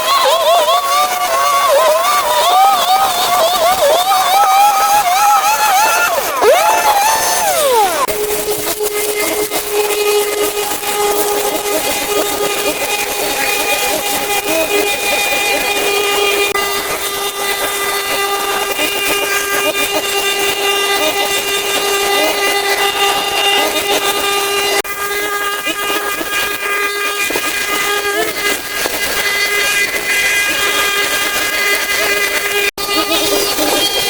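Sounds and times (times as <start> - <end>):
machine whine with hiss: 2.2 - 34.0.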